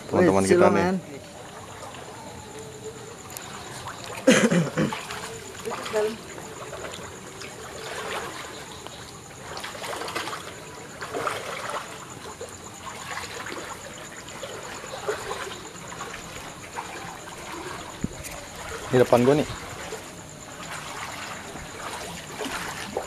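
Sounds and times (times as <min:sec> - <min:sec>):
water splashes: 0:00.0 - 0:23.0
water trickling and running: 0:00.0 - 0:23.0.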